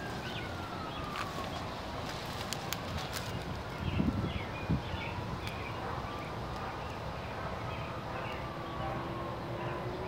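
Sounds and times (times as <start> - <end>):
background traffic rumble: 0.0 - 10.0
small birds chirping: 0.0 - 10.0.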